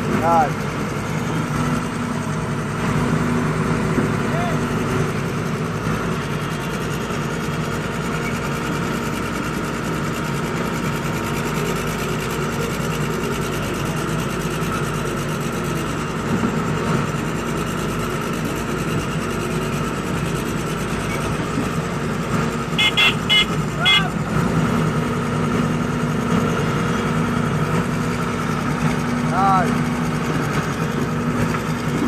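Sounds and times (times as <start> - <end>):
excavator diesel engine under load: 0.0 - 32.0.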